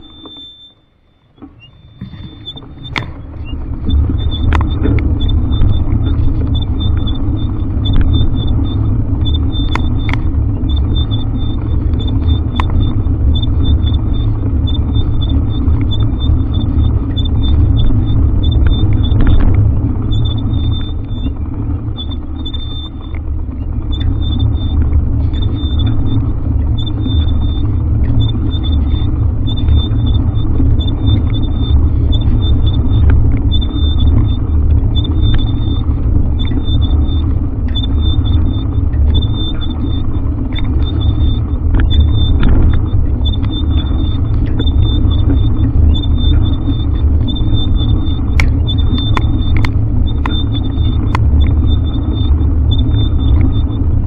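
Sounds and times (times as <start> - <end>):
sharp clicks: 0.0 - 21.4, 22.0 - 53.8
road noise: 0.0 - 54.0
wind buffeting microphone: 1.6 - 54.0.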